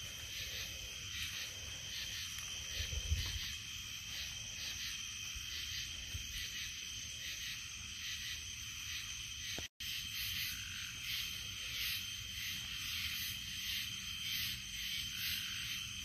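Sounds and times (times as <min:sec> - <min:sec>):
frogs trilling: 0:00.0 - 0:16.0.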